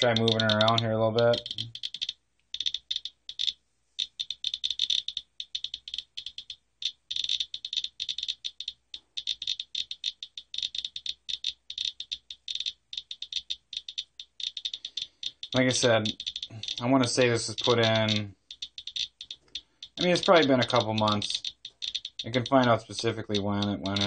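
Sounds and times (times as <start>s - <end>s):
geiger counter clicking fast: 0.0s - 24.0s.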